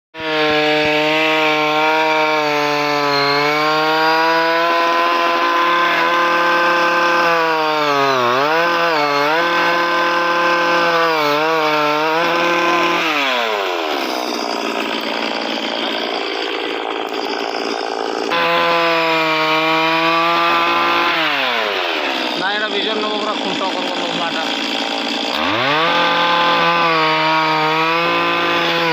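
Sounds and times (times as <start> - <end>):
chainsaw engine whining: 0.2 - 28.9.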